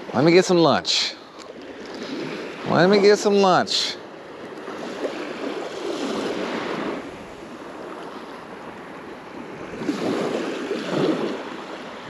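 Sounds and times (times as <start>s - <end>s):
ocean waves rushing: 0.0s - 12.0s.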